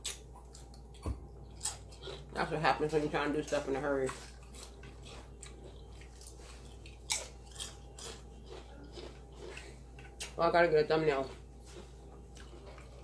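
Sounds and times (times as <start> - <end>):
person chewing crunchy chips: 0.0 - 2.7, 3.4 - 10.4, 11.2 - 13.0.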